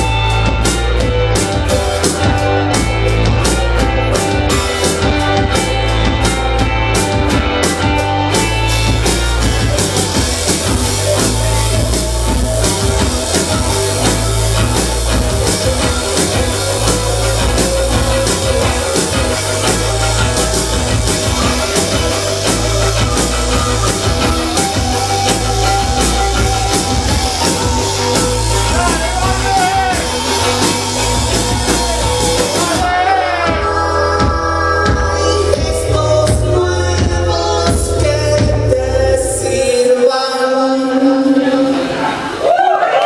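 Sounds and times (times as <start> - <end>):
electric guitar: 0.0 - 39.7
drums: 0.0 - 43.0.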